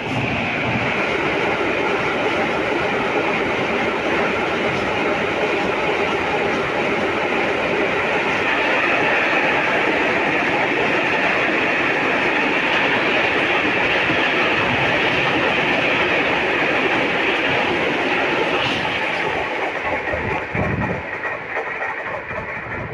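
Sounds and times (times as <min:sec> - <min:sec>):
train wheels rolling on rails: 0:00.0 - 0:22.9.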